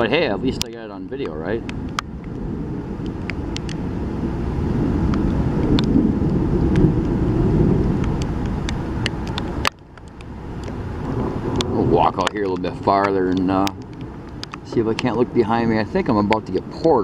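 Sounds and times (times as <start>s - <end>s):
low rumble: 0.0s - 17.0s
sharp ticks: 0.5s - 3.8s, 5.0s - 7.2s, 7.8s - 17.0s.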